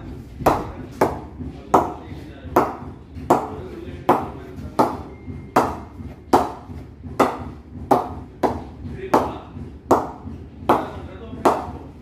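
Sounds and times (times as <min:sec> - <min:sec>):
ball knocking on wooden bat: 0:00.0 - 0:12.0.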